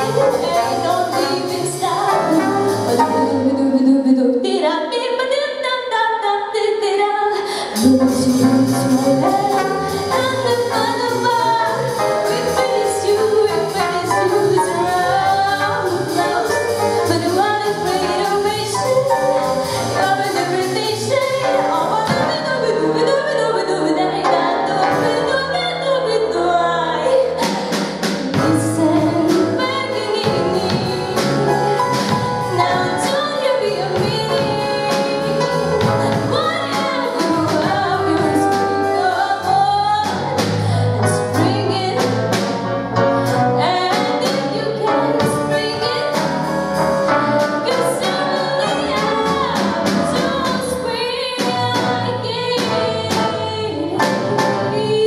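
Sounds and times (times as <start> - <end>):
drum kit steady beat: 0.0 - 3.4, 7.7 - 22.4, 27.4 - 53.4
woman singing: 0.0 - 42.4, 43.6 - 46.4, 47.4 - 55.0
piano: 0.0 - 55.0.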